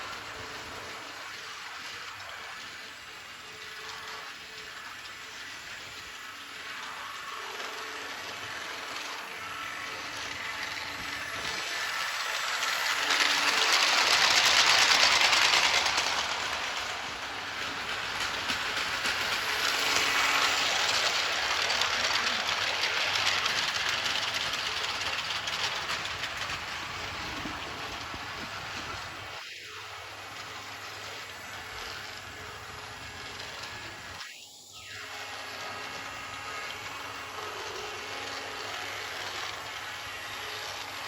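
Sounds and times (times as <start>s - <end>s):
toy train whirring rattle: 0.0s - 41.0s.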